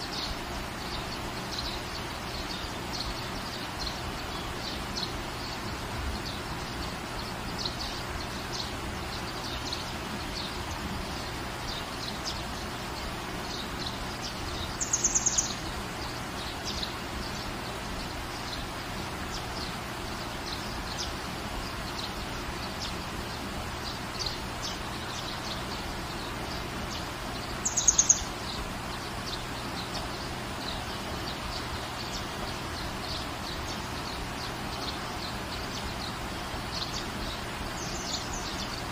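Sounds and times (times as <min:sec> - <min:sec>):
bird high rapid trill: 0:00.0 - 0:38.9
small birds chirping: 0:00.0 - 0:38.9
steady rain: 0:00.0 - 0:38.9.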